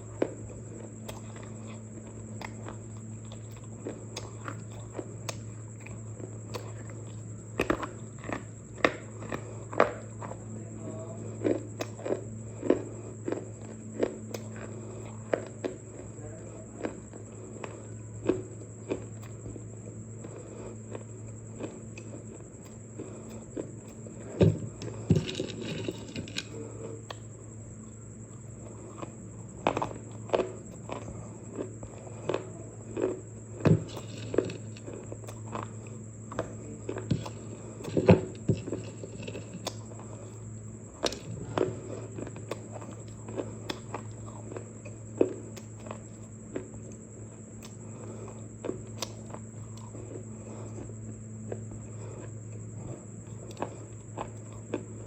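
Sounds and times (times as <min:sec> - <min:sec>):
crunching of clay being chewed: 0:00.0 - 0:55.0
steady low hum: 0:00.0 - 0:55.0.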